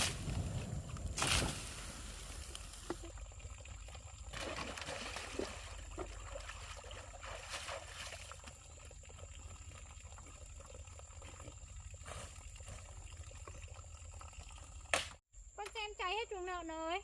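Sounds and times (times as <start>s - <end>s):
water splashes: 0.0s - 14.9s
water trickling and pouring: 0.2s - 15.0s.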